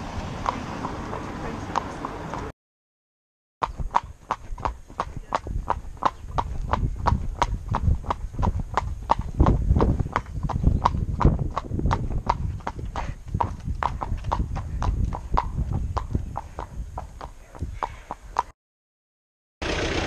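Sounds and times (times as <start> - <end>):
hooves clip-clopping on tarmac: 0.0 - 2.5, 3.6 - 18.5.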